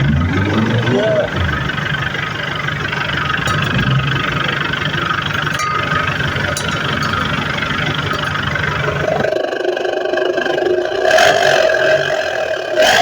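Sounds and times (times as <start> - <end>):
engine idling with deep growl: 0.0 - 13.0.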